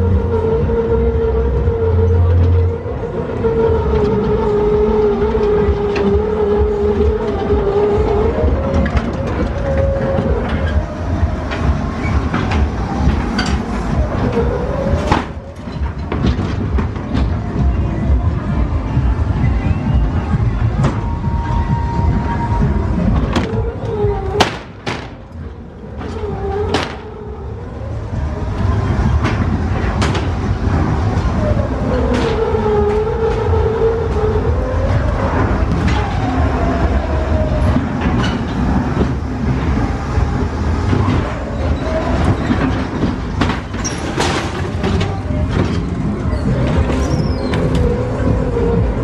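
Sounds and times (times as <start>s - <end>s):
ride car rumbling on track: 0.0s - 49.0s.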